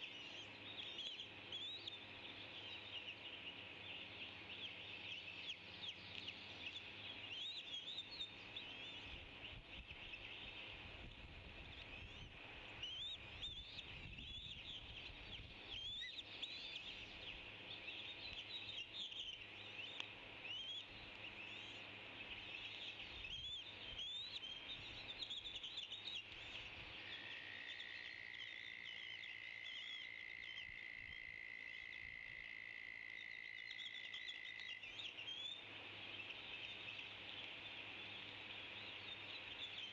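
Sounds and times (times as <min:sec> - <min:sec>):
small birds chirping: 0:00.0 - 0:32.2, 0:33.0 - 0:39.9.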